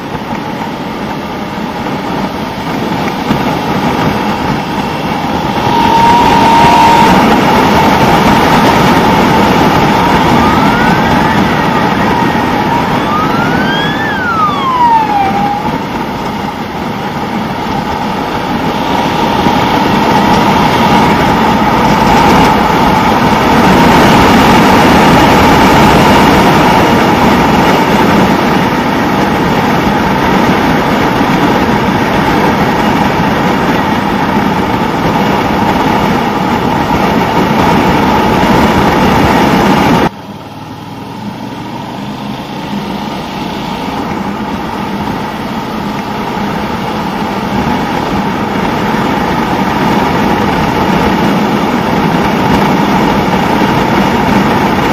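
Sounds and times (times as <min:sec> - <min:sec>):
wind noise: 0:00.0 - 0:40.2, 0:42.4 - 0:54.9.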